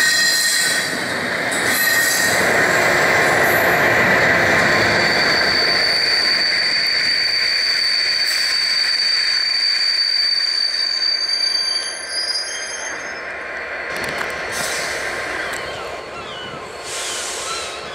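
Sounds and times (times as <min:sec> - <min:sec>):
train rumble: 0:00.0 - 0:17.9
train wheels squealing: 0:00.0 - 0:17.9.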